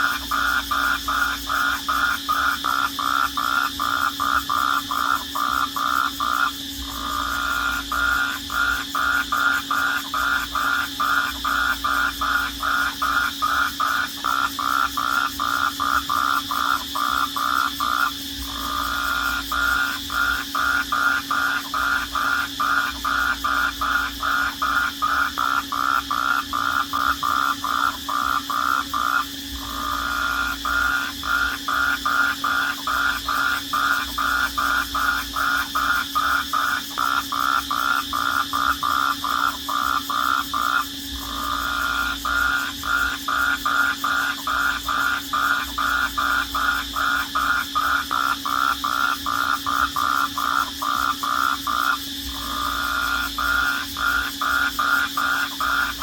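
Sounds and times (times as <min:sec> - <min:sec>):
rhythmic pulsed animal call: 0:00.0 - 0:56.0.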